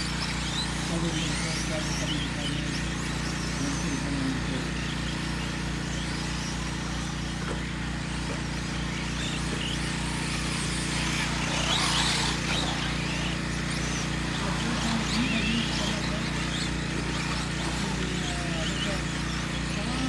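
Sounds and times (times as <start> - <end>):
rc truck motors whining: 0.0 - 20.0
steady low hum: 0.0 - 20.0.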